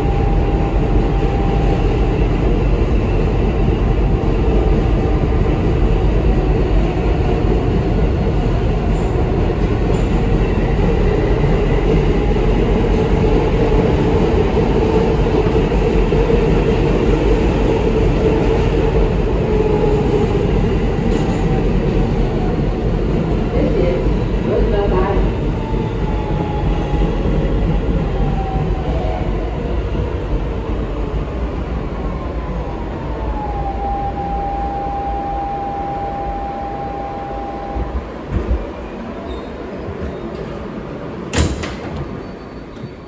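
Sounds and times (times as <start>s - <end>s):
subway train wheels rumbling on rail: 0.0s - 43.0s.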